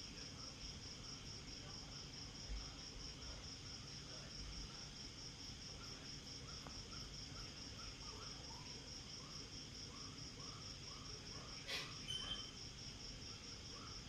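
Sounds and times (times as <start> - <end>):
insects pulsing trill: 0.1 - 14.0.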